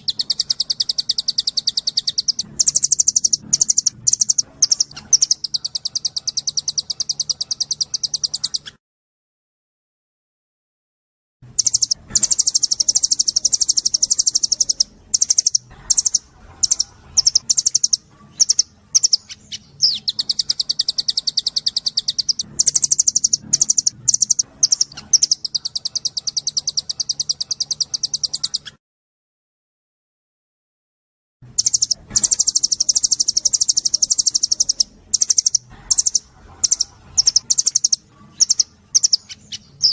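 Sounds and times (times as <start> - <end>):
bird chips: 0.0 - 8.8, 11.6 - 28.8, 31.6 - 39.9
songbird trilling: 0.0 - 8.8, 11.6 - 28.8, 31.6 - 39.9.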